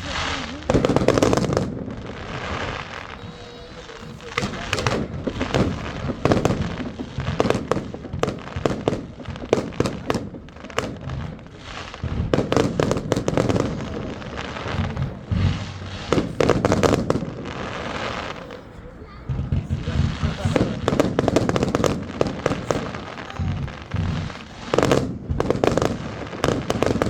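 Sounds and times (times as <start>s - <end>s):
firecrackers banging: 0.0s - 27.0s
rumble of explosions: 0.0s - 27.0s.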